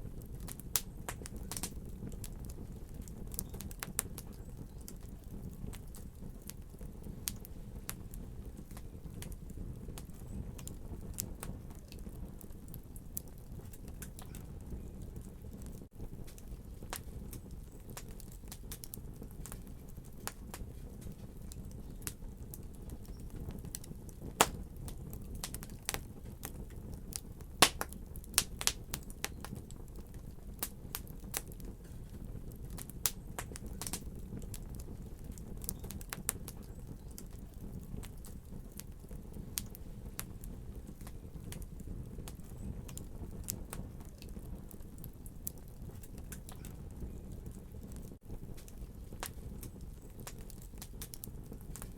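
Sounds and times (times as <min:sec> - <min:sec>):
fireplace fire crackling: 0:00.0 - 0:51.9.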